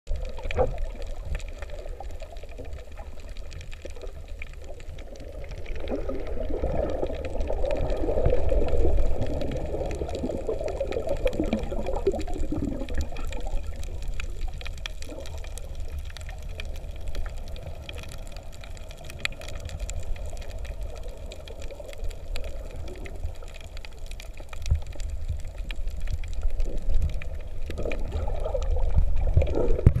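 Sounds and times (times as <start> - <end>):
underwater bubbling: 0.1 - 30.0.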